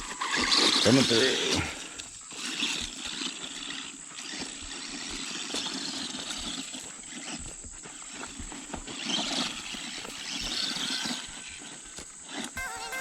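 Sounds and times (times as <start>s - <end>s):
toy truck motor whirring: 0.0s - 13.0s.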